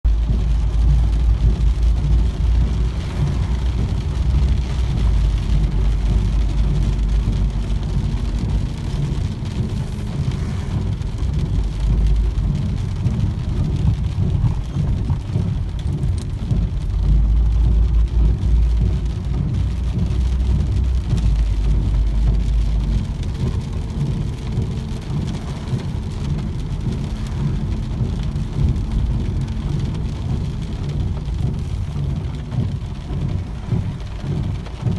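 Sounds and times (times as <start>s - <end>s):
deep rumble: 0.0s - 34.9s
heavy rain falling: 0.0s - 34.9s.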